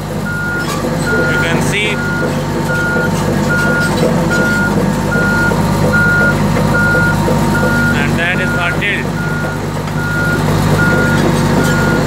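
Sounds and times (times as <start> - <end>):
diesel engine running: 0.0 - 12.0
back-up alarm beeping: 0.3 - 12.0.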